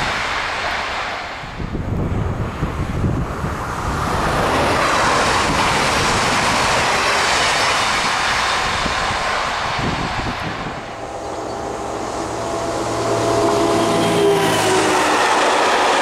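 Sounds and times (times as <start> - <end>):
rush of air: 0.0 - 15.9
train wheels rumbling on rails: 0.0 - 16.0.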